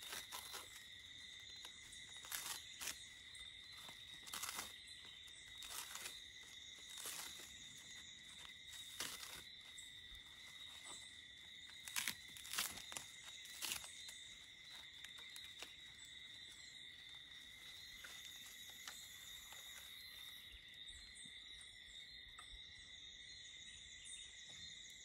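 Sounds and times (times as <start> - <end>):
dry plant fibre ripping: 0.0 - 20.4
high insect trill: 0.0 - 25.0.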